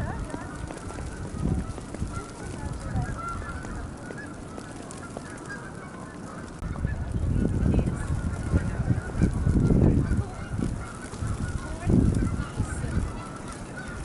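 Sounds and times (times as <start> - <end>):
distant birds honking: 0.0 - 14.0.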